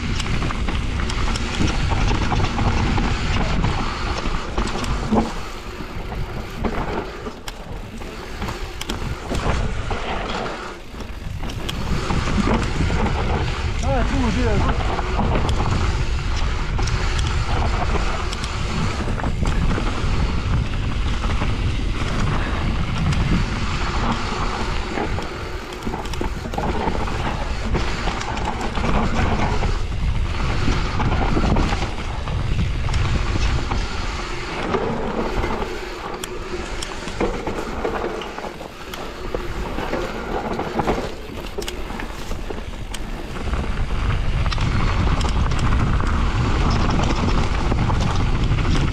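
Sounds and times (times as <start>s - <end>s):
bike rattling over bumps: 0.0s - 48.9s
tyres rolling over dirt: 0.0s - 48.9s
wind buffeting microphone: 0.0s - 48.9s.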